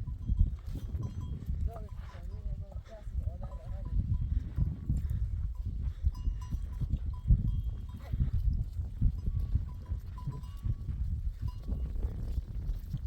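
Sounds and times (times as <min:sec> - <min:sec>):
goat bells clinking: 0:00.0 - 0:13.0.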